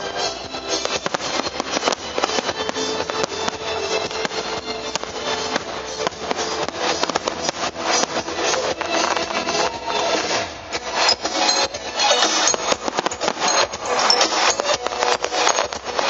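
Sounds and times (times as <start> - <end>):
disco music: 0.0 - 16.0
fireworks popping and crackling: 0.0 - 16.0.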